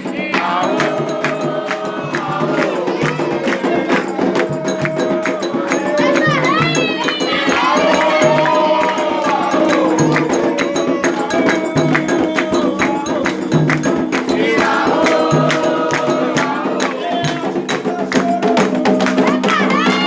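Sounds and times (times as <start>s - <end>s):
fast hand drums and percussion: 0.0s - 20.0s
voices singing a chant: 0.0s - 20.0s.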